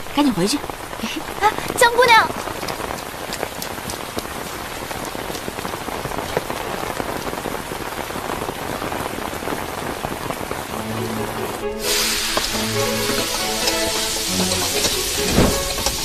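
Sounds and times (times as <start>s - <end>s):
sharp raindrop hits: 0.0s - 16.0s
steady rain falling: 0.0s - 16.0s.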